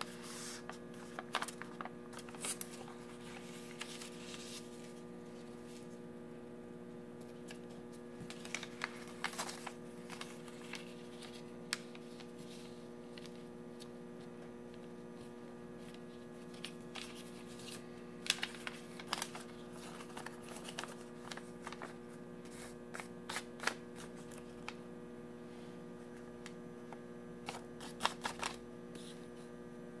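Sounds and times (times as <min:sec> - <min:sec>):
paper crinkling as folded: 0:00.0 - 0:06.0, 0:07.2 - 0:24.8, 0:27.4 - 0:29.3
electrical hum: 0:00.0 - 0:30.0.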